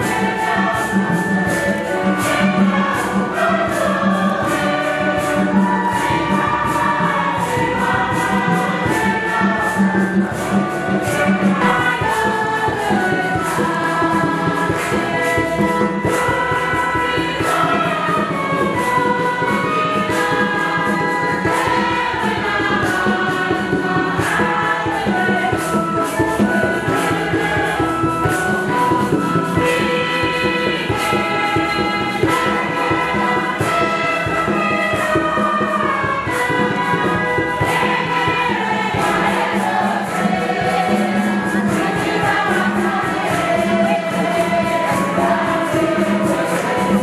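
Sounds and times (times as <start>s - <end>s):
choir singing a hymn: 0.0s - 47.0s
percussion beat: 0.0s - 47.0s.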